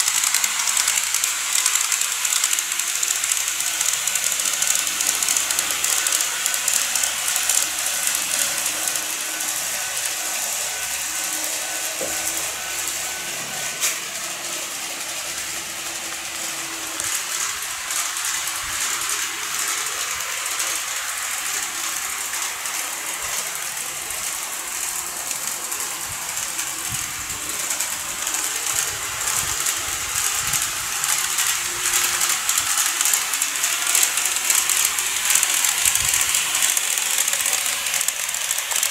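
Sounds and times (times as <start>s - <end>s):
model train wheels clattering: 0.0s - 38.9s
thin steady whine: 0.0s - 38.9s.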